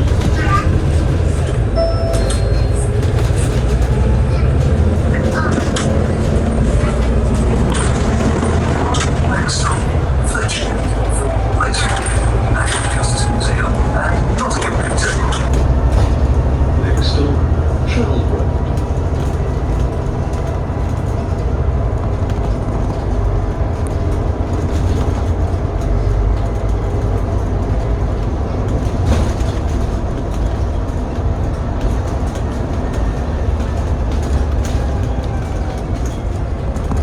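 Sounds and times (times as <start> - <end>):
bus engine rumble with whine: 0.0 - 37.0.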